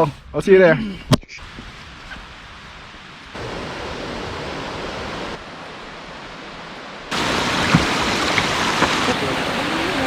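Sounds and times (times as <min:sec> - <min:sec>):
rushing water: 0:01.4 - 0:10.0.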